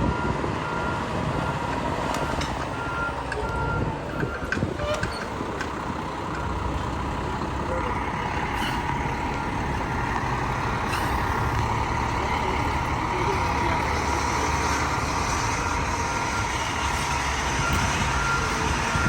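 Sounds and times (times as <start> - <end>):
diesel engine rumbling: 0.0 - 19.0
street traffic: 0.0 - 19.0.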